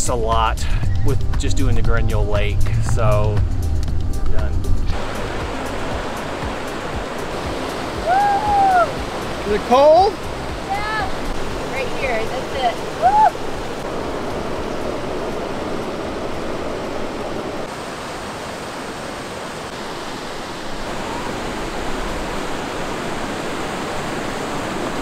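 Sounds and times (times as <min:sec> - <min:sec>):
creek rushing over rocks: 0:04.9 - 0:25.0.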